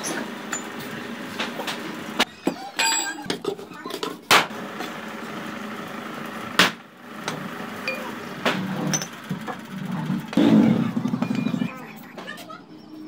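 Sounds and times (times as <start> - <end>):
steady mechanical noise: 0.0 - 13.0.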